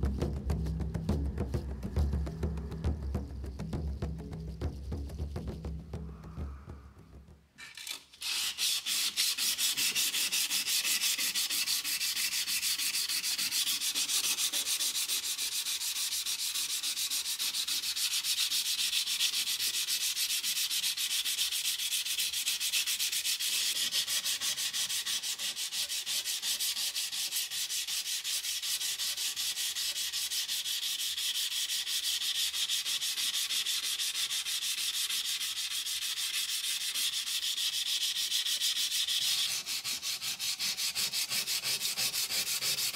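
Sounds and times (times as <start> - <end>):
sandpaper scratching steel blade: 7.6 - 42.9.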